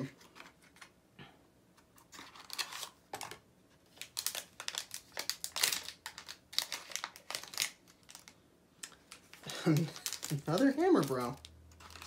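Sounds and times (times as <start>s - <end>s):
packaging crinkling and rustling: 2.0s - 12.0s.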